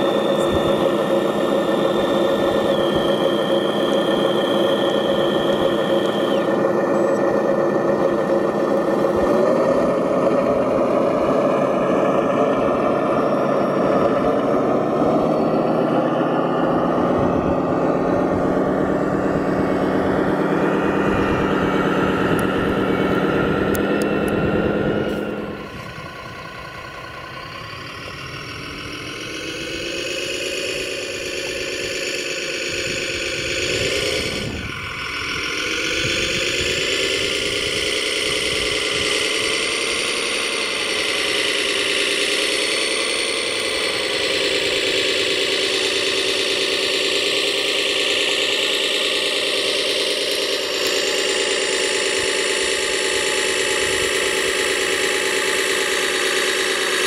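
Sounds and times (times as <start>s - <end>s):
toy truck motor drone: 0.0s - 57.0s.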